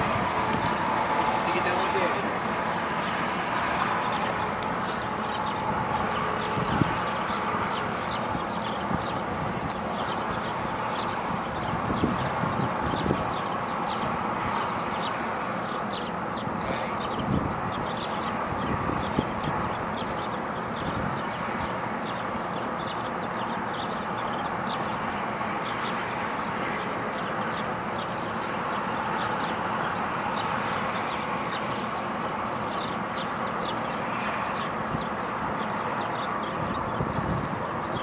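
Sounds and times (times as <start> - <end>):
rushing outdoor background noise: 0.0 - 38.0.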